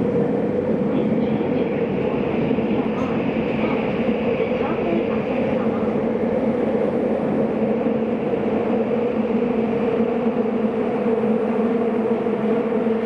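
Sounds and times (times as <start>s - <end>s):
train hum: 0.0s - 13.0s
train wheels rumbling: 0.0s - 13.0s.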